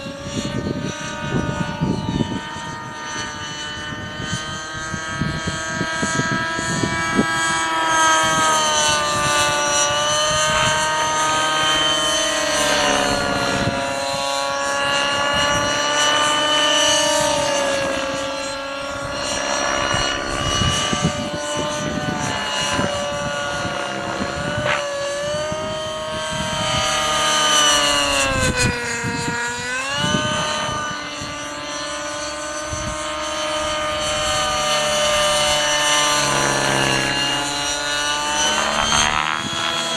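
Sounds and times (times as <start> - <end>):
rc helicopter engine whining: 0.0 - 39.9
wind buffeting microphone: 0.0 - 39.9.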